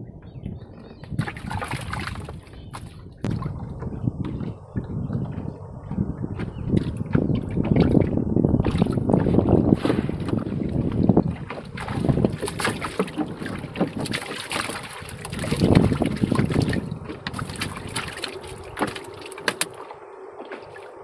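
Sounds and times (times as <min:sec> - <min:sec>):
water splashing around boat: 0:00.0 - 0:21.0
wind buffeting microphone: 0:00.0 - 0:21.0.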